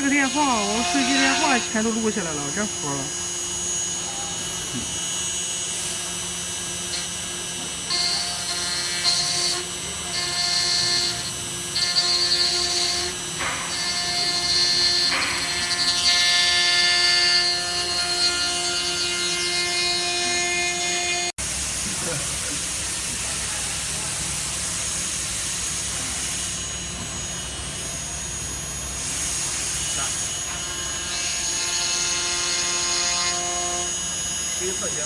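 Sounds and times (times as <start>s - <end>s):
higher machine whine: 0.0s - 35.0s
router spindle cutting whine: 0.0s - 35.0s.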